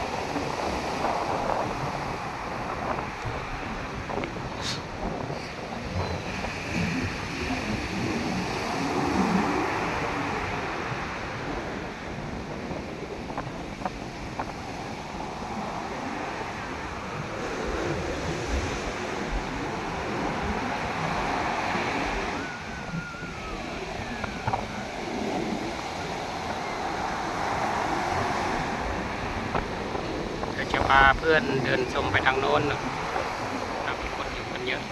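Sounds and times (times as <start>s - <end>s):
sea waves breaking on beach: 0.0s - 34.9s
wind rumbling on microphone: 0.0s - 34.9s.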